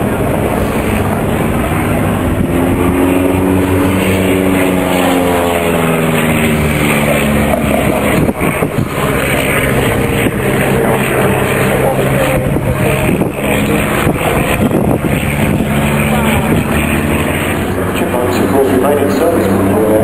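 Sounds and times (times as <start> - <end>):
propeller aircraft flying overhead: 0.0 - 20.0.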